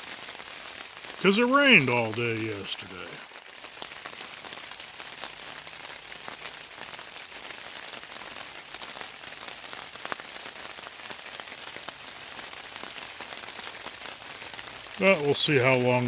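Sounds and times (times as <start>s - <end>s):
rain on a tarp: 0.0s - 16.0s.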